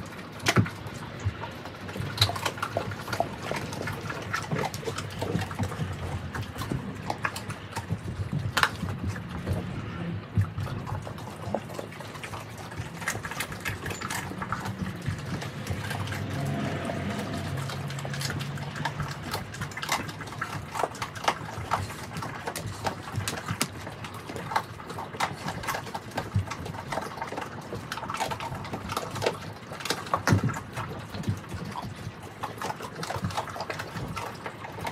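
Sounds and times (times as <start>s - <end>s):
bones cracking and crunching: 0.0s - 34.9s
puppies wet smacking and licking: 0.0s - 34.9s.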